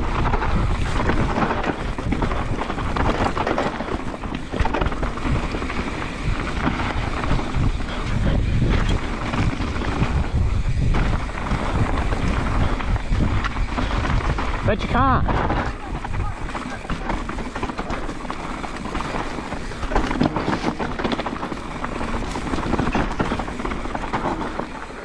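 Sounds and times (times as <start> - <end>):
mountain bike rattling on rocky trail: 0.0 - 25.0
wind buffeting microphone: 0.0 - 25.0.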